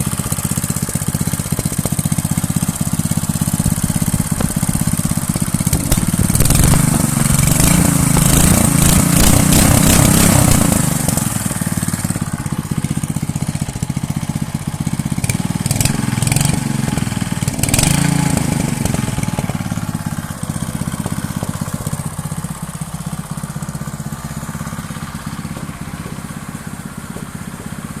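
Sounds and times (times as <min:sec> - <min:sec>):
scooter engine revving and idling: 0:00.0 - 0:28.0.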